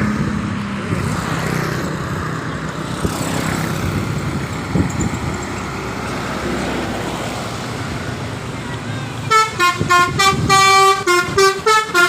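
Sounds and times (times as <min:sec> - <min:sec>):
traffic passing by: 0:00.0 - 0:12.0.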